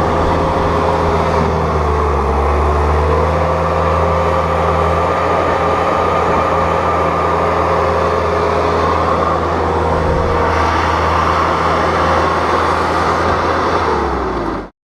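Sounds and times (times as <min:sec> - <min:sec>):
steady whine: 0:00.0 - 0:14.4
diesel engine under load: 0:00.0 - 0:14.7.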